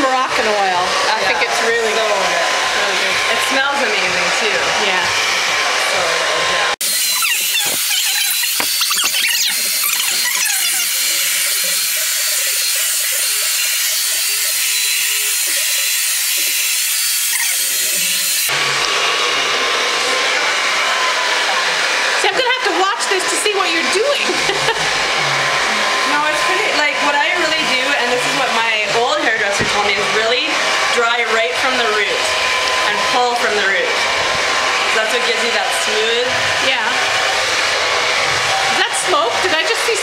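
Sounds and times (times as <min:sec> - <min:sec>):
hair dryer blowing: 0:00.0 - 0:40.0.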